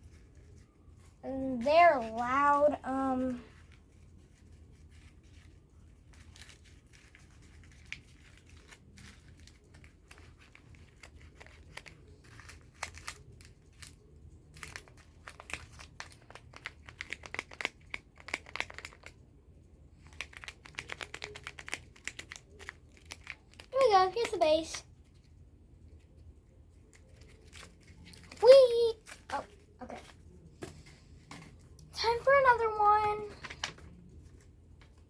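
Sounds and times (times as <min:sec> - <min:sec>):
paper crinkling: 0:00.0 - 0:19.2, 0:20.0 - 0:35.0.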